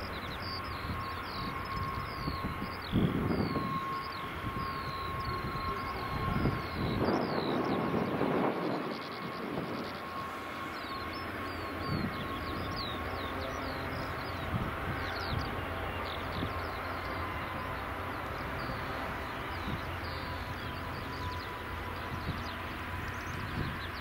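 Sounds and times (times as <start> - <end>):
jet engines droning: 0.0 - 24.0.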